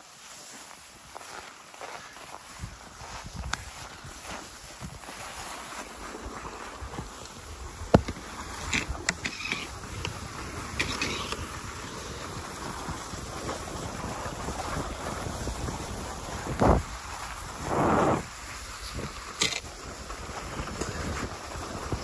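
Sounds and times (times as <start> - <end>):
skis sliding over snow: 0.0 - 22.0
wind on microphone: 2.6 - 5.0, 6.8 - 22.0.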